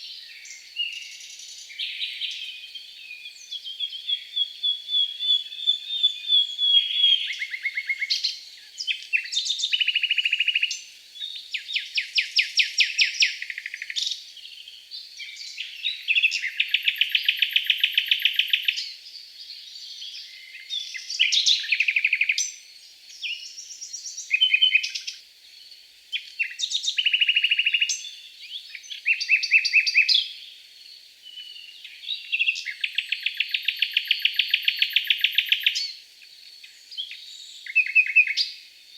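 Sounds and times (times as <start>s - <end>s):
songbirds singing trills: 0.0s - 38.9s.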